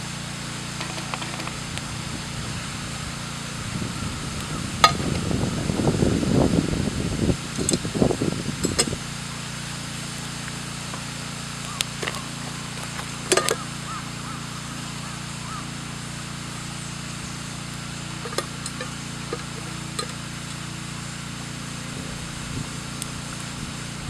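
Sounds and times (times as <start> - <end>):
campfire hissing: 0.0 - 24.0
fire crackles: 0.0 - 24.0.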